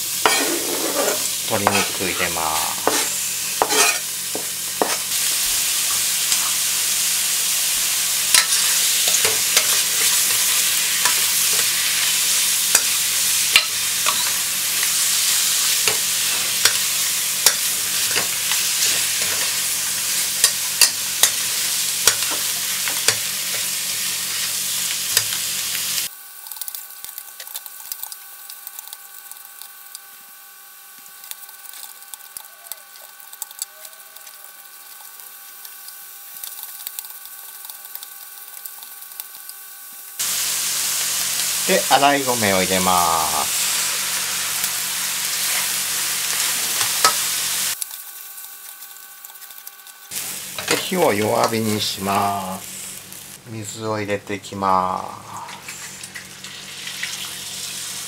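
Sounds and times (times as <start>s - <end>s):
food sizzling in a pan: 0.0s - 53.8s, 54.6s - 58.0s.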